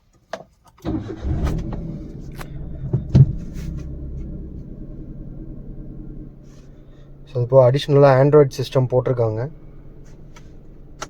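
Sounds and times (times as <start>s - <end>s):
car engine starting and idling: 0.8s - 11.0s.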